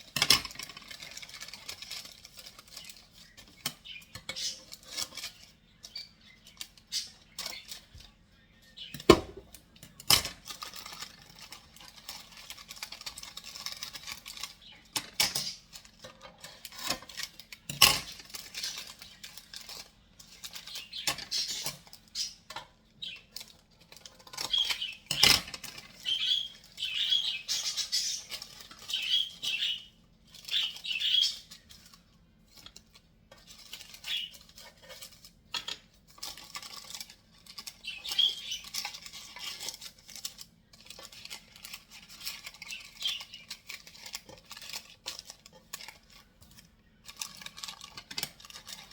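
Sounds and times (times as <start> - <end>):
scraping and rustling: 0.0 - 8.2, 8.8 - 48.9.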